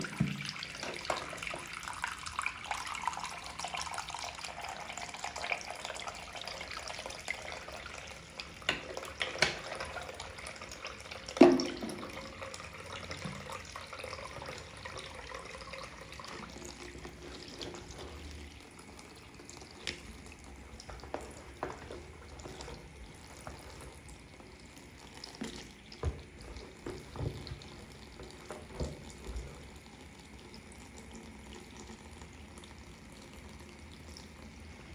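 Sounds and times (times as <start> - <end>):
tap water running into sink: 0.0 - 34.9.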